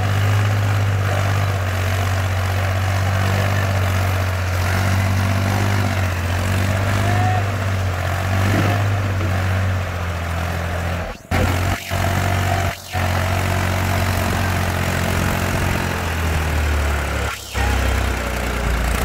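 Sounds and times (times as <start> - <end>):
tractor diesel engine drone: 0.0 - 19.0.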